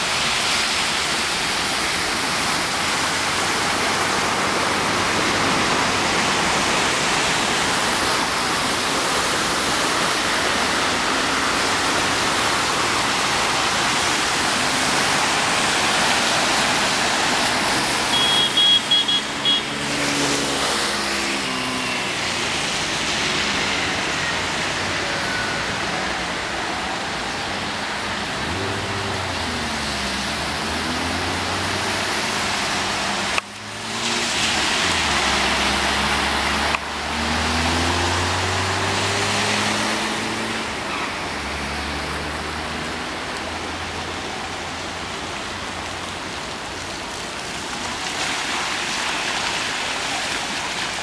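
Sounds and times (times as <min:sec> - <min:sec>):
car engines humming: 0:00.0 - 0:51.0
rushing water: 0:00.0 - 0:51.0.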